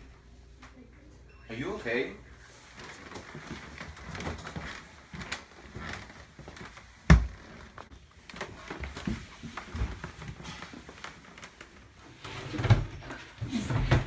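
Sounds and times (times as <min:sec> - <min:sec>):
people scuffling on wooden floor: 0:02.4 - 0:14.0.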